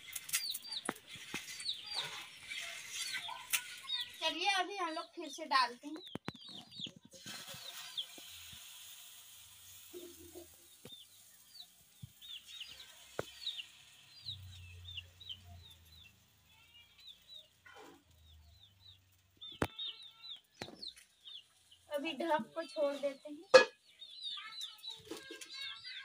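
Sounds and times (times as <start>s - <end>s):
chickens chirping: 0.0s - 9.0s, 9.7s - 26.0s.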